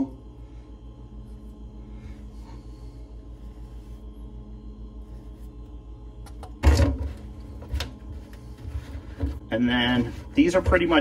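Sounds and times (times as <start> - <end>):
low hum with pulsing beat: 0.0 - 11.0.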